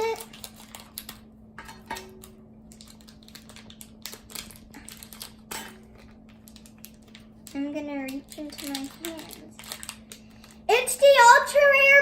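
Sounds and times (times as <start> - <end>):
toy packaging clicks and rustles: 0.0 - 1.3, 2.1 - 11.6
faint steady hum: 0.0 - 12.0.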